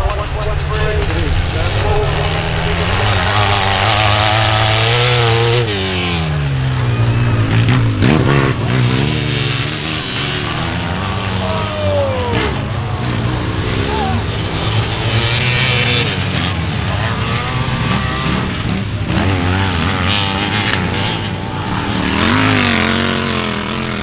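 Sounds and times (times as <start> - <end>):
motorcycle engines racing past: 0.0 - 24.0.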